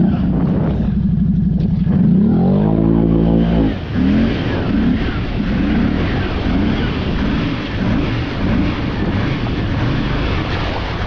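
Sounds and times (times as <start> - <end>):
atv engine running: 0.0 - 11.0
heavy wind noise: 0.0 - 11.0
water noise: 0.0 - 11.0.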